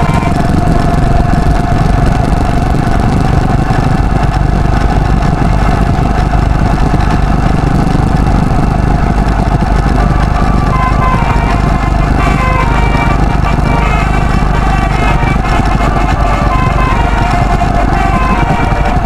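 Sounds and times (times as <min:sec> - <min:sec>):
motorcycle engine running: 0:00.0 - 0:19.0
steady whine: 0:00.0 - 0:19.0
wind rumble on microphone: 0:00.0 - 0:19.0.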